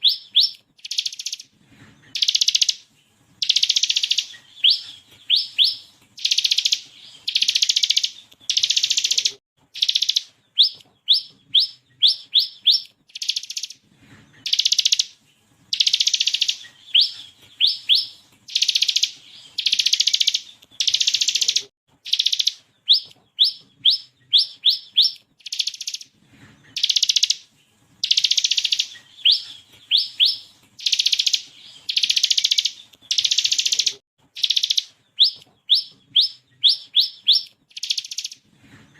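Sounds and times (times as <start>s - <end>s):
bird singing trills and whistles: 0.0s - 13.8s, 14.4s - 38.4s.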